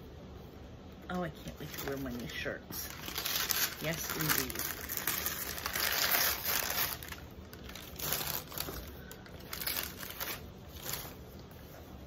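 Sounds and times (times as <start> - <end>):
wrapping paper crinkling: 1.5 - 12.0.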